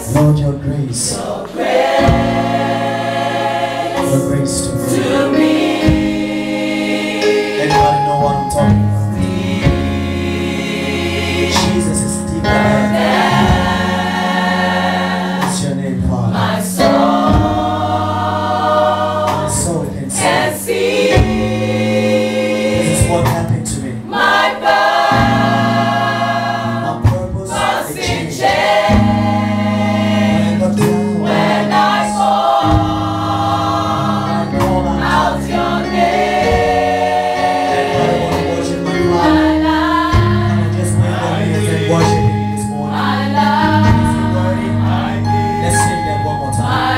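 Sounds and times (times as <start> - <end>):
held low notes: 0.0 - 46.9
mixed choir singing: 0.0 - 46.9.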